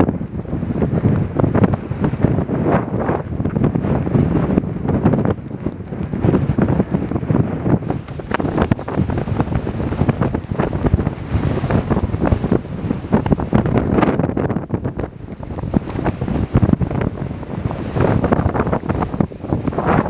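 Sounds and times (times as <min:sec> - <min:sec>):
gusting wind buffeting microphone: 0:00.0 - 0:20.0.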